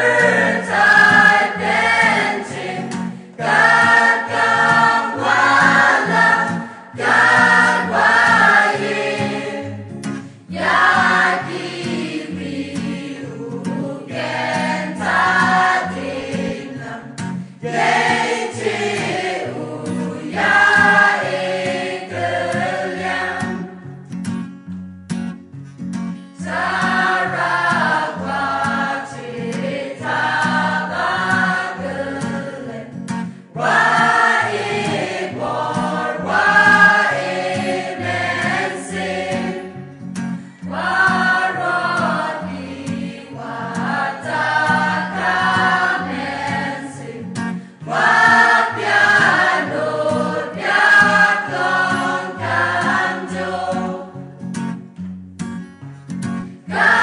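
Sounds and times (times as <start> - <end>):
choir singing a hymn: 0.0 - 23.9, 26.4 - 54.3, 56.6 - 57.0
acoustic guitar: 0.0 - 57.0.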